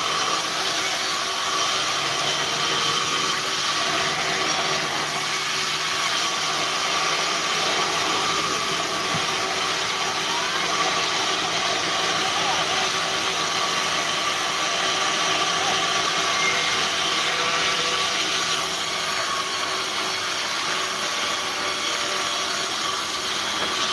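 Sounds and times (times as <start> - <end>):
band saw sawing log: 0.0 - 23.9.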